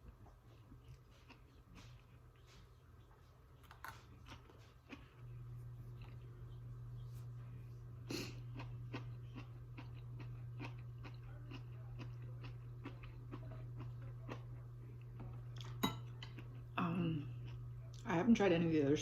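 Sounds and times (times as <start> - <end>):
steady low hum: 0.0 - 19.0
person chewing with mouth clicks: 0.1 - 6.7, 8.1 - 18.0.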